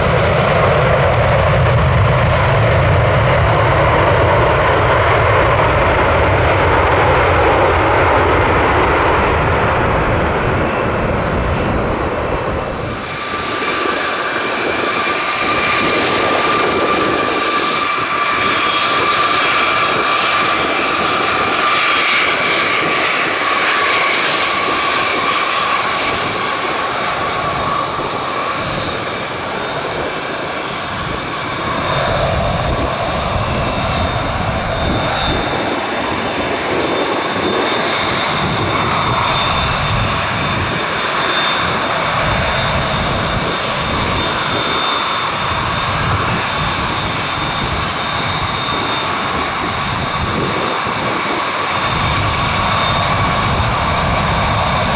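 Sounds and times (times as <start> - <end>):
jet engines whining: 0.0 - 54.9.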